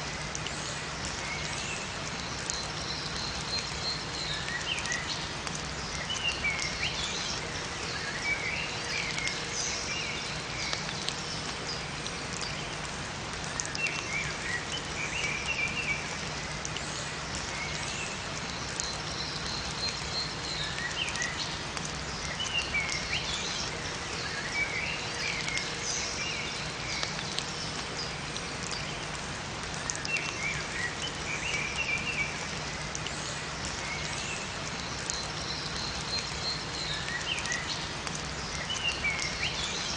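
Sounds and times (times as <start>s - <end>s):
steady rain in a forest: 0.0s - 39.9s
water dripping: 0.0s - 39.9s
songbirds chirping: 0.3s - 39.9s.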